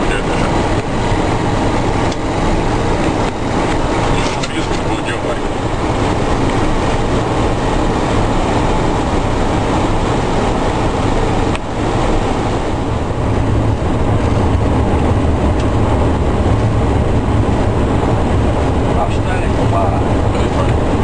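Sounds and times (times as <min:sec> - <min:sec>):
low engine rumble: 0:00.0 - 0:21.0
rush of airflow: 0:00.0 - 0:21.0.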